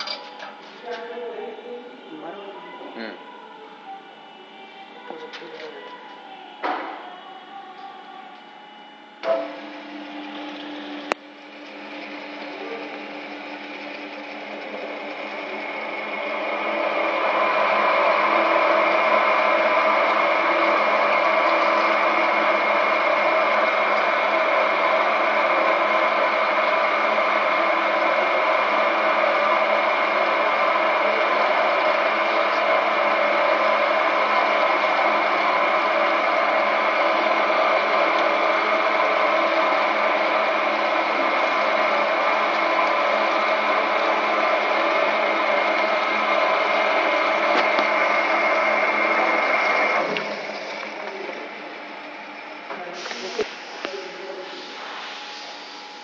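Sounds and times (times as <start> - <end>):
drilling machine whining: 0.0 - 56.0.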